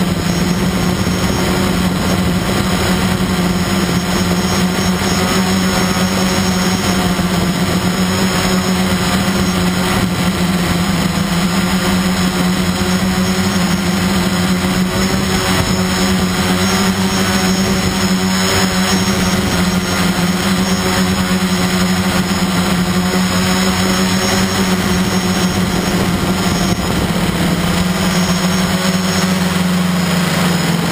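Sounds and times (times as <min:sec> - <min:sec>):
model aircraft motor humming: 0:00.0 - 0:30.9.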